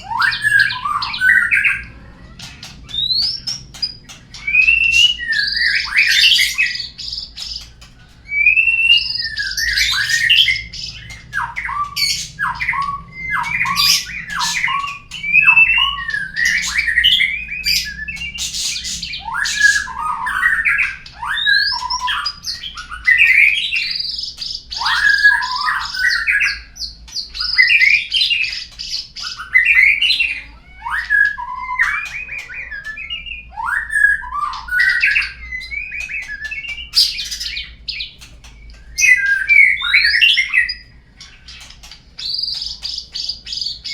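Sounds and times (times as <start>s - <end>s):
songbird whistling and chattering: 0.0s - 43.9s.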